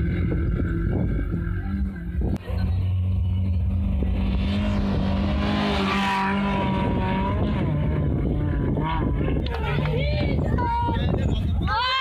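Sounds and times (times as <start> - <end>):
jeep engine running hard: 0.0 - 11.7.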